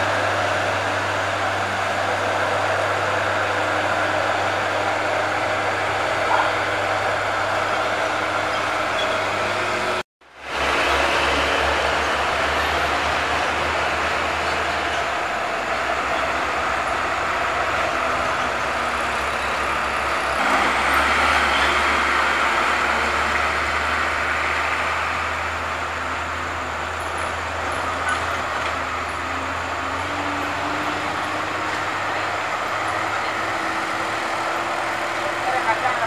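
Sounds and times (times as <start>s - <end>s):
passing road traffic: 0.0s - 36.0s
truck diesel engine droning: 0.0s - 36.0s.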